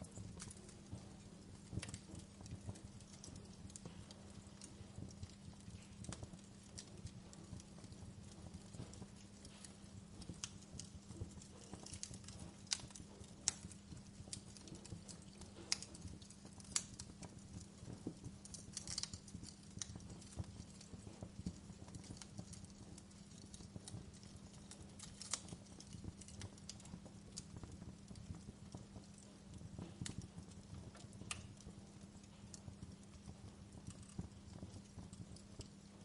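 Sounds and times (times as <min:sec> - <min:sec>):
fire crackling: 0:00.0 - 0:36.0
steady low hum: 0:00.0 - 0:36.0.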